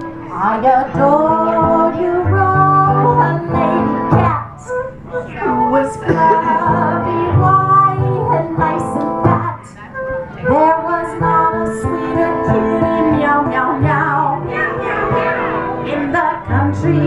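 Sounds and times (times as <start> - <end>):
acoustic guitar: 0.0 - 17.0
woman singing: 0.0 - 17.0.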